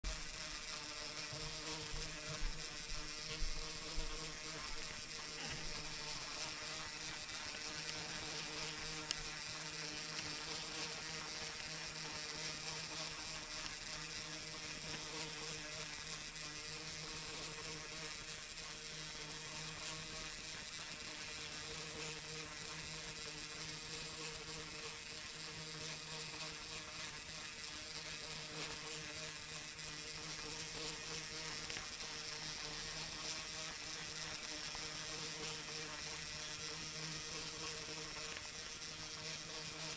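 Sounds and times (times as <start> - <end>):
motor-driven gears whirring: 0.1 - 39.9.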